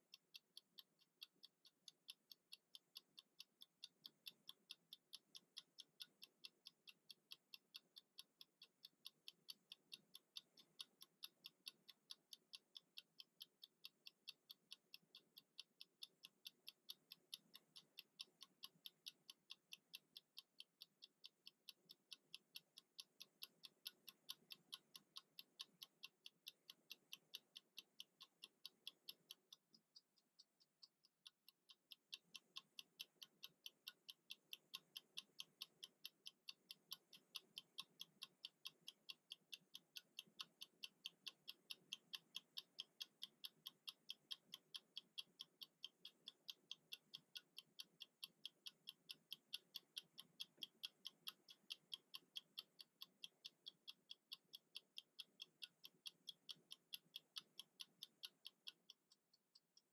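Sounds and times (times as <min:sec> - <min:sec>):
kitchen timer ticking: 0:00.0 - 0:59.9.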